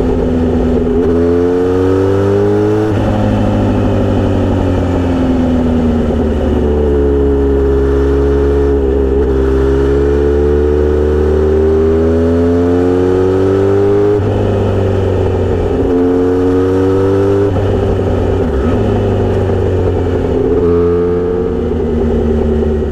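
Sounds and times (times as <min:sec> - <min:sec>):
loud motorcycle exhaust: 0:00.0 - 0:22.9.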